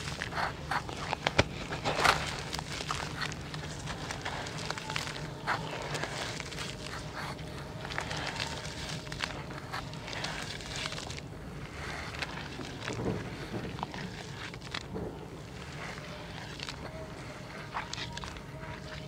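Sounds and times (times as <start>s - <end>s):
gritty crackles of crushed chunks: 0.0s - 19.0s
wet squelches in muddy water: 0.0s - 19.0s.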